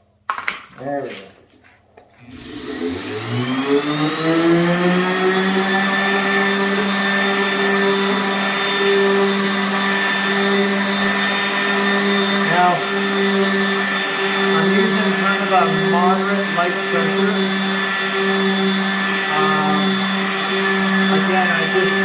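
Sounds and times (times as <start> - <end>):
electric orbital sander running: 2.2 - 22.0.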